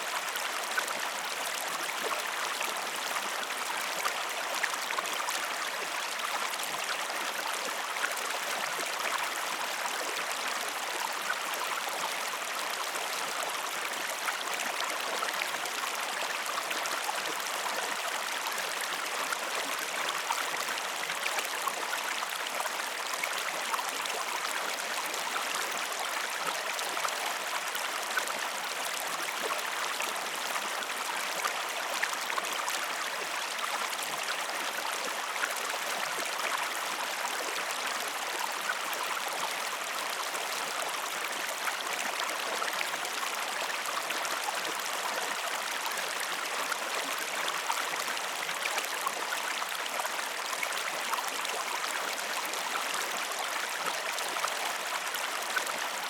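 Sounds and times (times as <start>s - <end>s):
babbling stream water: 0.0s - 56.0s.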